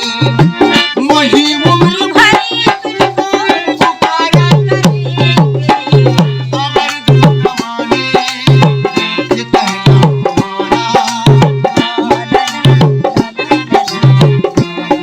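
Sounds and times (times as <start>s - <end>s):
tabla hand drum rhythm: 0.0s - 15.0s.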